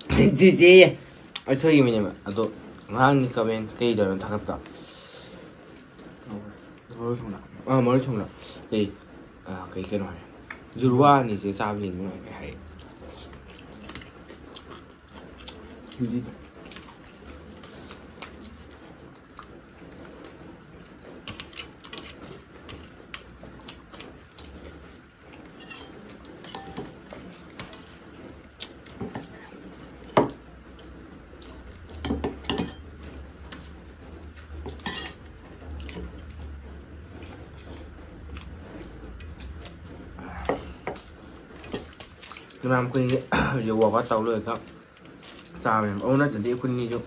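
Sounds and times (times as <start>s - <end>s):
fingers mixing rice on steel plates: 0.0s - 47.0s.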